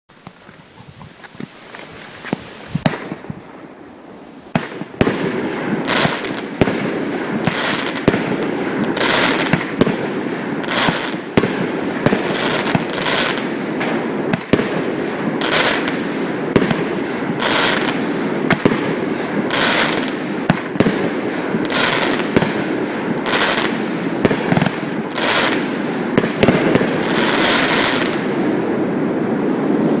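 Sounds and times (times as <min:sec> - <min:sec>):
firework crackling: 0:01.2 - 0:30.0
firework bangs: 0:02.8 - 0:03.5, 0:04.5 - 0:30.0.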